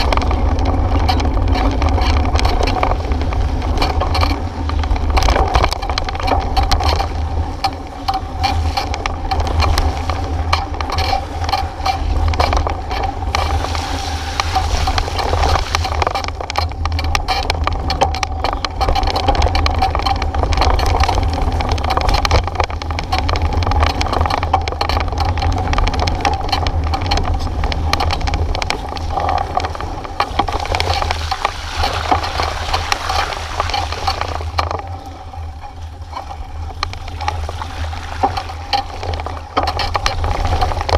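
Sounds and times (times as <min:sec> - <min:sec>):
bike rattling and clattering: 0:00.0 - 0:40.9
wind buffeting microphone: 0:00.0 - 0:40.9.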